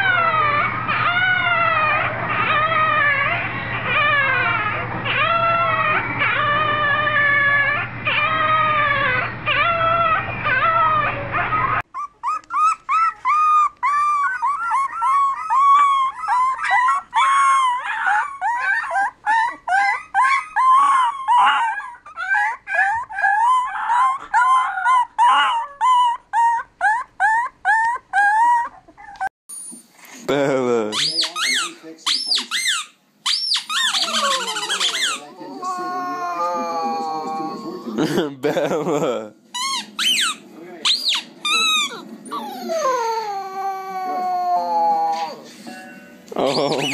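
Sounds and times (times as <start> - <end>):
puppy howling: 0.0 - 29.3, 33.4 - 38.2, 39.6 - 45.5, 46.4 - 46.9
puppy yipping howls: 0.0 - 29.3, 31.0 - 38.0, 39.6 - 45.5, 46.4 - 46.9.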